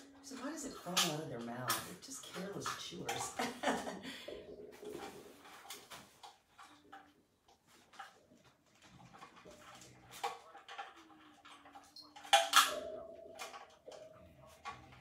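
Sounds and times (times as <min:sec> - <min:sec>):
puppies chewing treats: 0:00.0 - 0:15.0.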